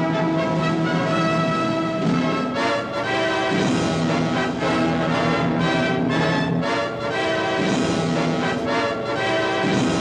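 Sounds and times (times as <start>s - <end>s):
brass sustained chords: 0.0s - 10.0s
orchestral music: 0.0s - 10.0s.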